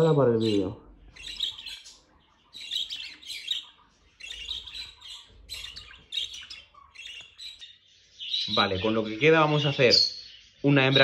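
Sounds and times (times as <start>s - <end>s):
budgerigars chirping and squawking: 0.0s - 11.0s.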